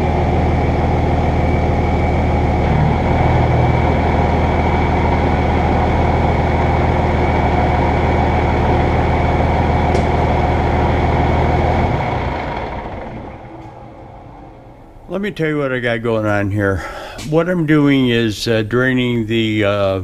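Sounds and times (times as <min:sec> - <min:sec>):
diesel engine idling: 0:00.0 - 0:18.6.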